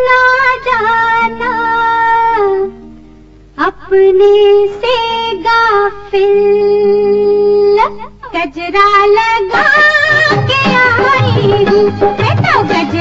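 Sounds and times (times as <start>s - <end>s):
woman singing: 0.0s - 2.8s, 3.6s - 13.0s.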